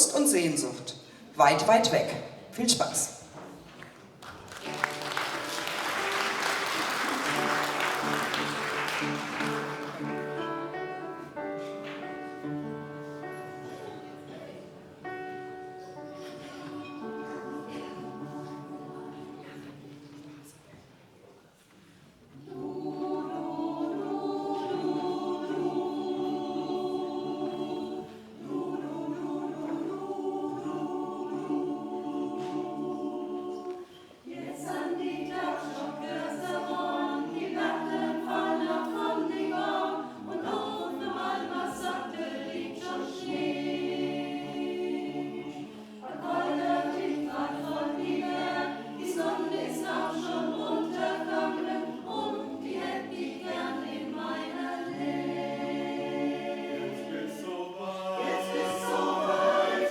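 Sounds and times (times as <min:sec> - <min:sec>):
choir singing a slow ballad: 0:04.6 - 0:59.9.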